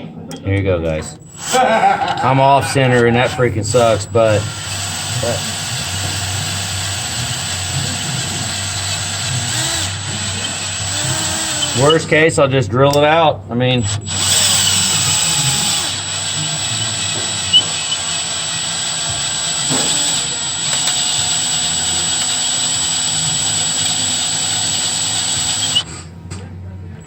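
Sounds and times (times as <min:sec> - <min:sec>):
power drill drilling into bolt: 0:01.3 - 0:02.3, 0:03.0 - 0:12.1, 0:13.8 - 0:26.1.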